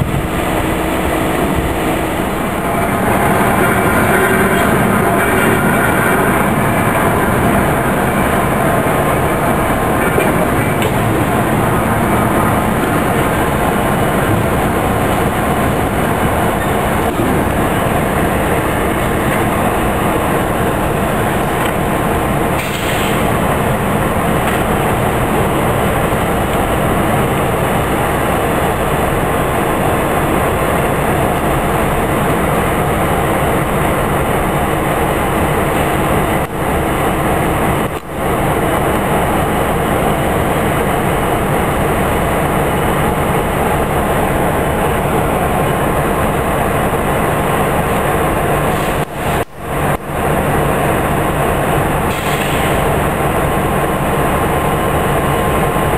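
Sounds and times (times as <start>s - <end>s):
diesel locomotives running: 0.0s - 55.9s
small track vehicle running: 0.0s - 55.9s.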